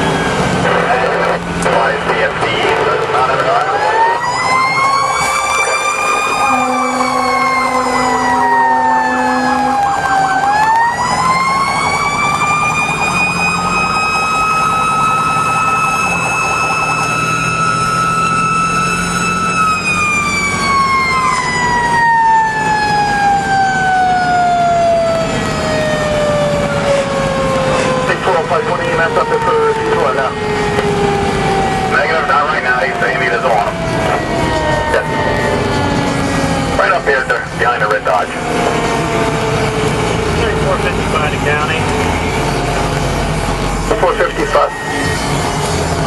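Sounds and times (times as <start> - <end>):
fire truck siren: 0.0 - 46.0
truck engine and road noise: 0.0 - 46.0.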